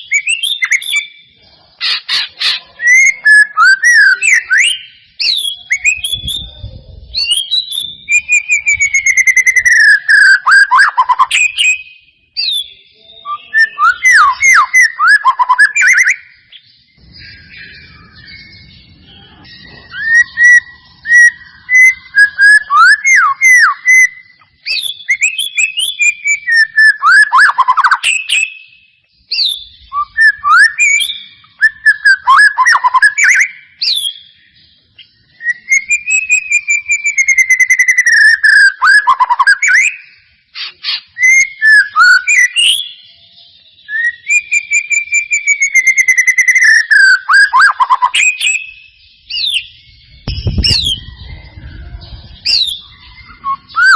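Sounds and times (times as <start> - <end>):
songbird whistles and trills: 0.0 - 53.9.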